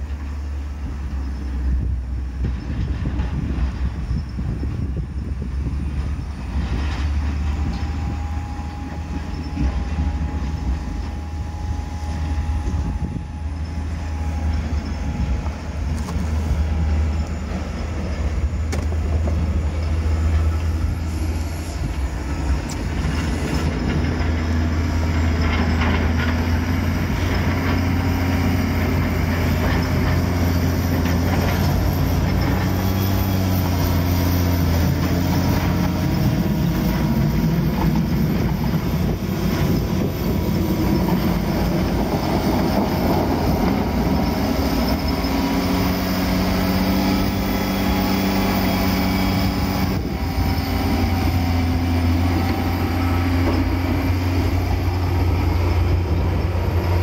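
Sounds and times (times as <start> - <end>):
diesel engine rumbling: 0.0 - 57.0
plow blades scraping snow and ice: 5.7 - 57.0.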